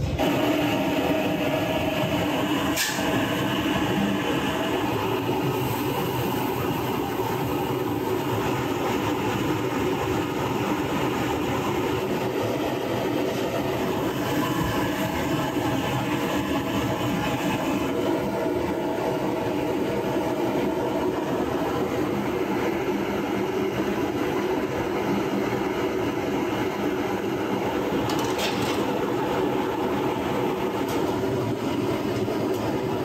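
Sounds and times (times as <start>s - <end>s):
mechanical running hum: 0.0s - 33.0s.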